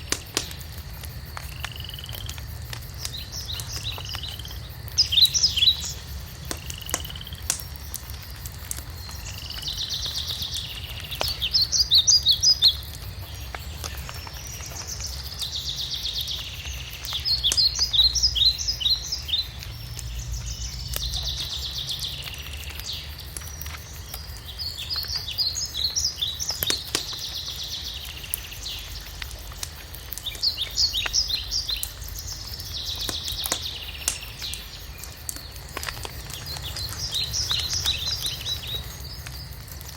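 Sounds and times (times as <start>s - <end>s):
wood fire crackling: 0.0s - 39.9s
songbird singing: 1.3s - 39.8s.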